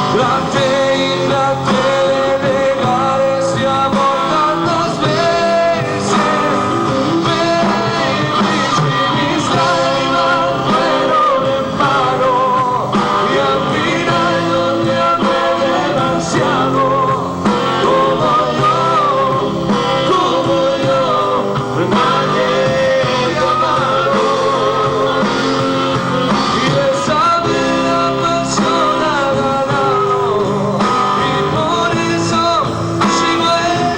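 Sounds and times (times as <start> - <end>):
guitar: 0.0 - 33.9
person singing: 0.0 - 33.9
rock band playing: 0.0 - 33.9.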